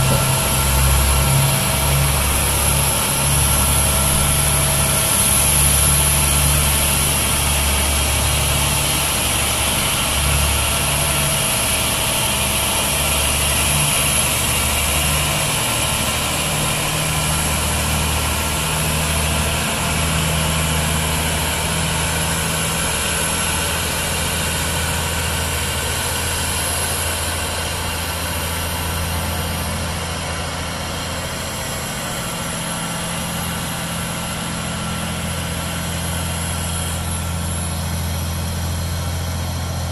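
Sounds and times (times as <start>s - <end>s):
diesel engine running at low revs: 0.0s - 39.9s
steady high whine: 0.0s - 39.9s.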